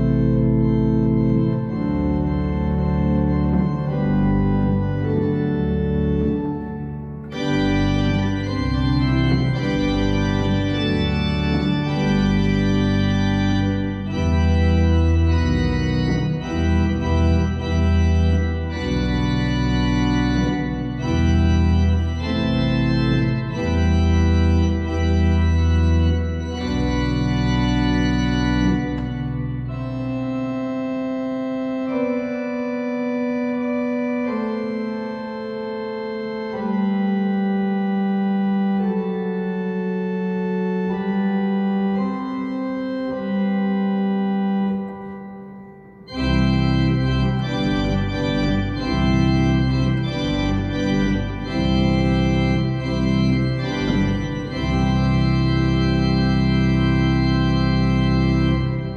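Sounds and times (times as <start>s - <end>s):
deep organ pedal bass: 0.0s - 58.9s
pipe organ sustained chords: 0.0s - 58.9s.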